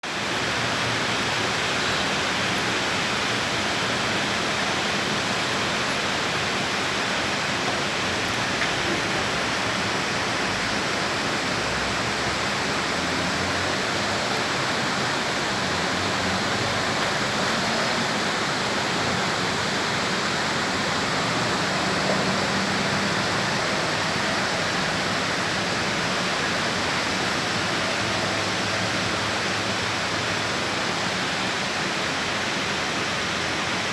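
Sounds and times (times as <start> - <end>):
rain pouring: 0.0 - 33.9.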